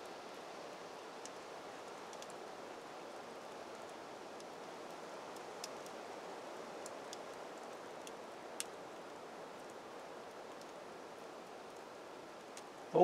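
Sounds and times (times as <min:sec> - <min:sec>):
campfire crackling and popping: 0:00.0 - 0:13.0
steady camera hiss: 0:00.0 - 0:13.0.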